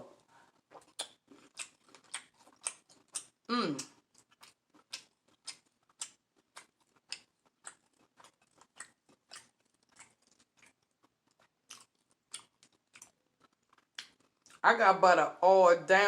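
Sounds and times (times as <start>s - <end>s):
wet chewing mouth clicks: 0.5s - 14.6s.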